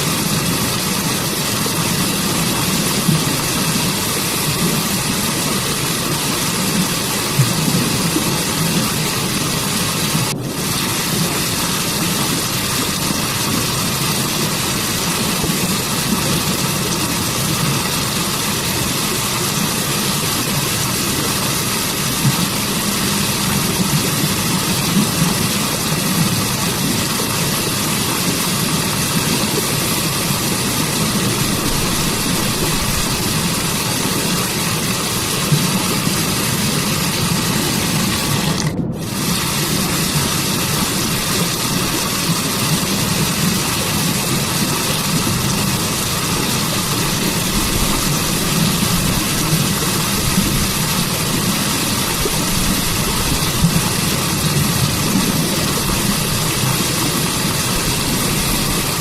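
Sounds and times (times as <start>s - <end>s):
waterfall and stream rushing: 0.0s - 59.0s.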